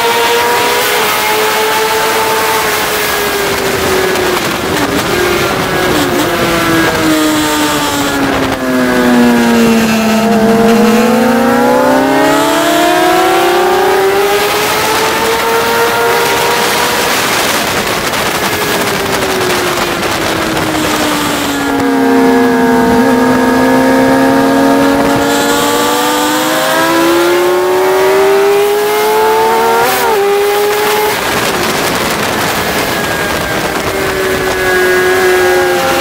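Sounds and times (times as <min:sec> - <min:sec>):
motorcycle engine revving: 0:00.0 - 0:36.0
wind rush: 0:00.0 - 0:36.0.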